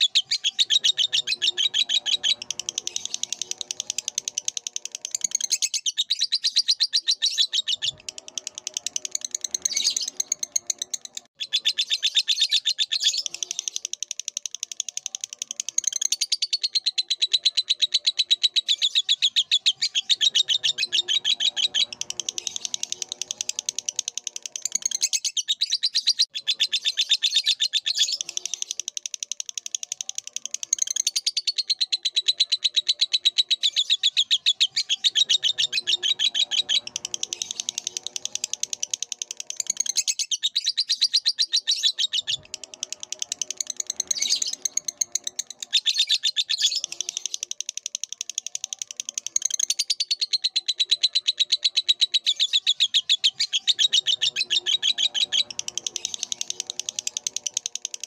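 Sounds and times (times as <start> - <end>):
lovebird chirping: 0.0 - 58.0
low bird chatter: 0.0 - 58.0.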